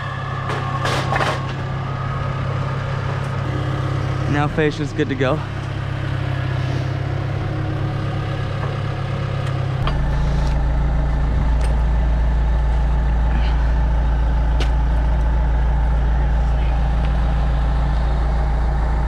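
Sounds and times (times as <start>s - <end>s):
lift engine running: 0.0s - 19.0s.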